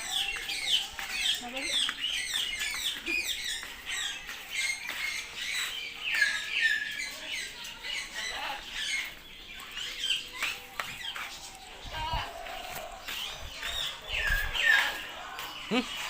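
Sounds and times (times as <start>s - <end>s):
birds squawking and chirping: 0.0s - 16.0s.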